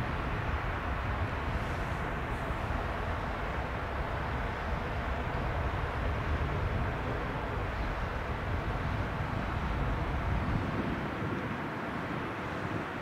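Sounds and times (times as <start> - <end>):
distant propeller plane engine: 0.0 - 13.0
wind rumble on microphone: 0.0 - 13.0.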